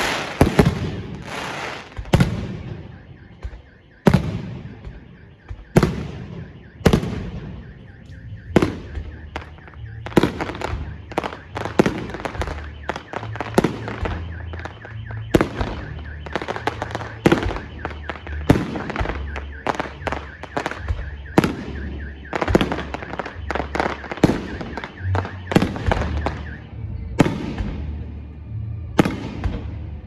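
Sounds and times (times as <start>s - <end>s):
fireworks crackling: 0.0s - 28.0s
fireworks bangs: 0.0s - 28.1s, 29.0s - 30.0s.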